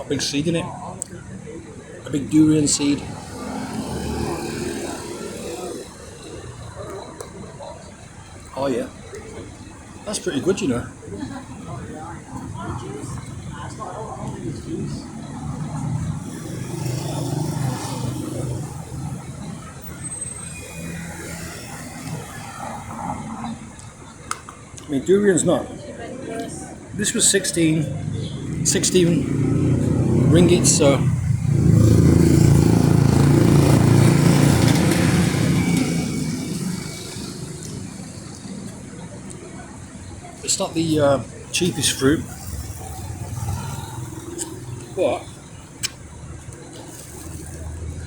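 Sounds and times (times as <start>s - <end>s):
vehicle engine running close: 1.0s - 24.7s, 26.8s - 48.0s.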